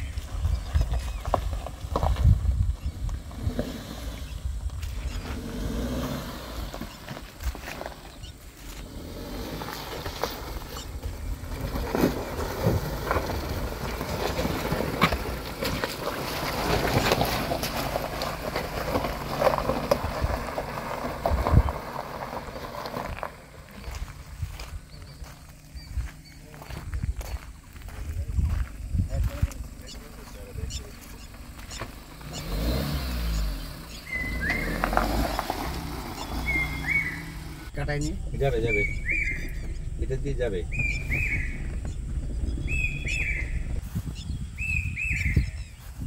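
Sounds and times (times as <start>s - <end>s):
stones crunching under tyres: 0.0s - 46.0s
suv engine running: 0.0s - 46.0s.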